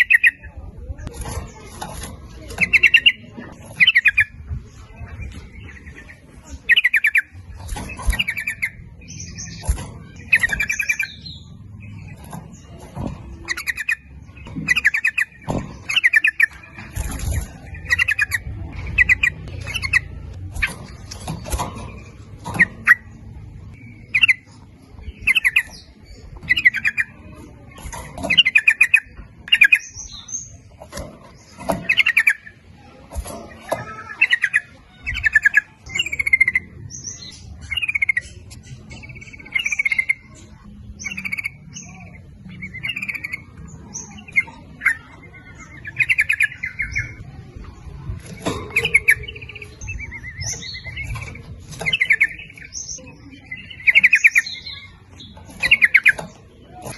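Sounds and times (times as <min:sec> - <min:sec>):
bulbul singing chattering phrases: 0:00.0 - 0:56.9.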